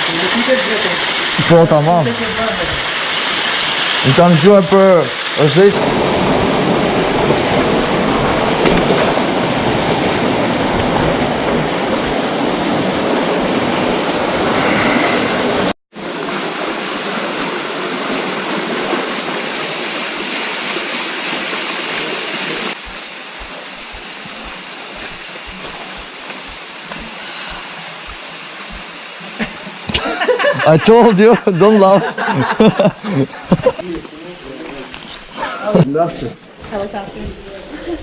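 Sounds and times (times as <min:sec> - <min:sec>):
stream water rushing: 0:00.0 - 0:35.8.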